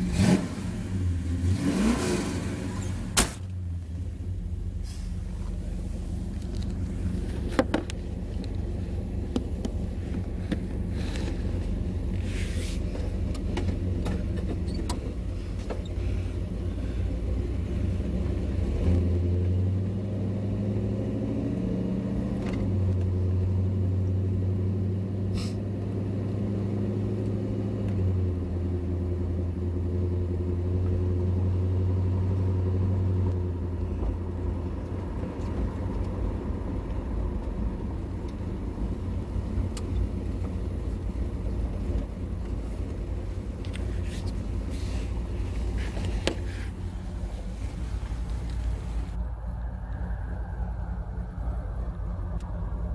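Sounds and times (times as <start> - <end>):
car engine rumbling: 0.0 - 52.9.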